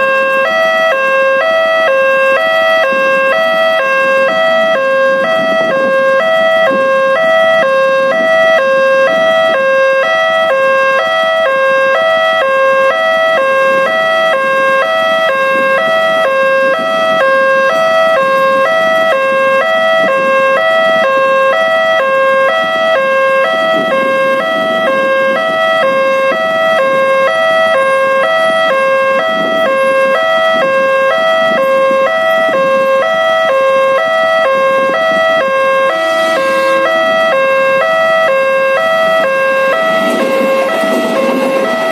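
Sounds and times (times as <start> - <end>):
low rumble of traffic: 0.0 - 41.9
two-tone level crossing alarm: 0.0 - 41.9.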